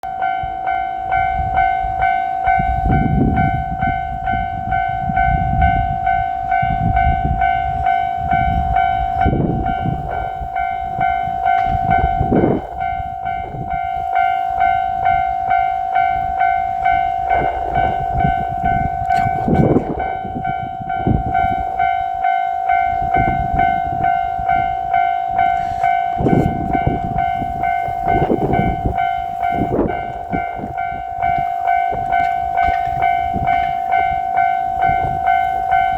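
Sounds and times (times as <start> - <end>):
diesel railcar rumble: 0.0 - 35.9
level-crossing warning bell: 0.0 - 35.9.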